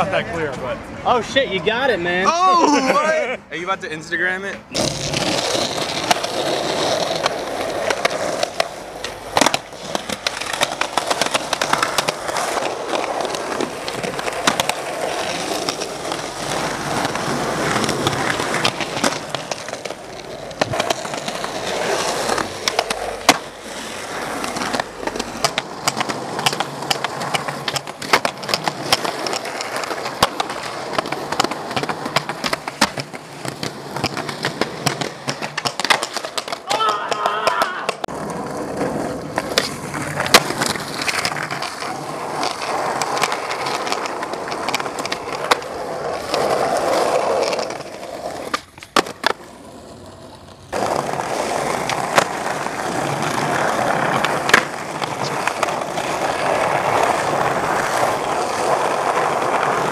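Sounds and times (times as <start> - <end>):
skateboard wheels rolling on concrete: 0.0 - 59.9
skateboard clacking on ground: 4.4 - 59.9.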